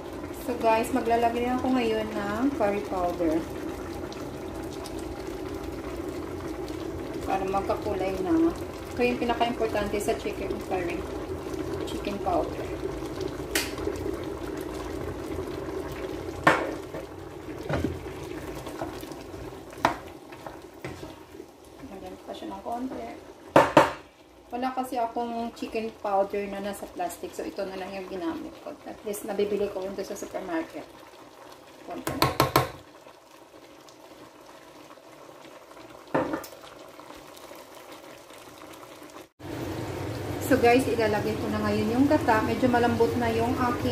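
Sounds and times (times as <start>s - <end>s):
pot of curry simmering and bubbling: 0.0s - 43.9s.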